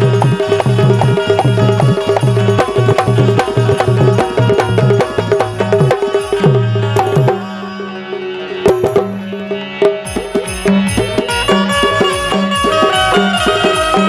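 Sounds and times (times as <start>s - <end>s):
hand drum rhythm: 0.0s - 7.8s, 8.6s - 14.0s
held melodic tone: 0.0s - 14.0s.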